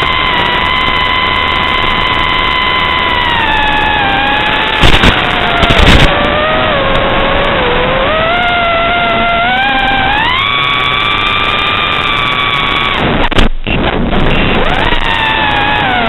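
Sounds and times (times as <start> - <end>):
quadcopter motors whining: 0.0 - 13.3, 14.2 - 16.0
loud rough noise bursts: 0.0 - 16.0.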